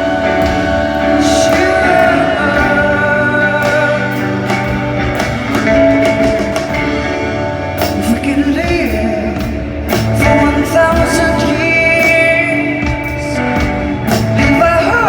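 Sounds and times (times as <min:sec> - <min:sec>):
person singing: 0:00.0 - 0:05.8, 0:07.7 - 0:15.0
live band music: 0:00.0 - 0:15.0.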